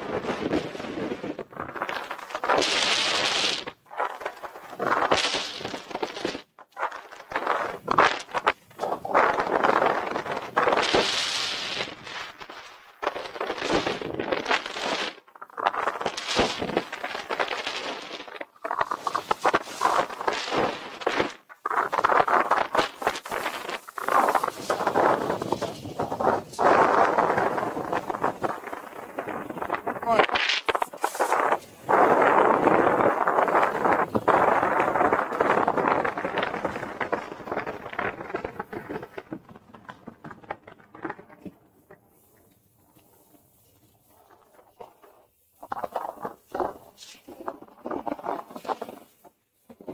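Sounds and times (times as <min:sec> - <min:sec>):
snowboard edges scraping snow: 0:00.0 - 0:39.0, 0:42.1 - 0:49.9.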